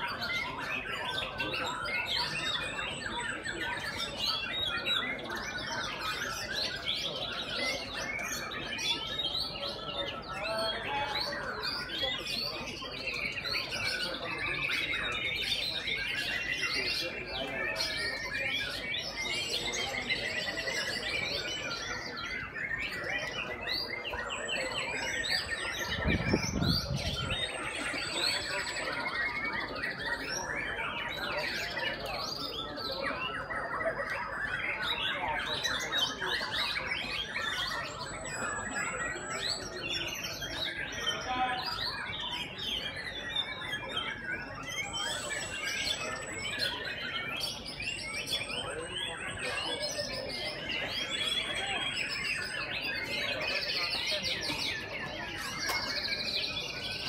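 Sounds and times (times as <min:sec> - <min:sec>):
chorus of birds singing: 0:00.0 - 0:57.0
songbirds whistling and chirping: 0:00.0 - 0:57.0.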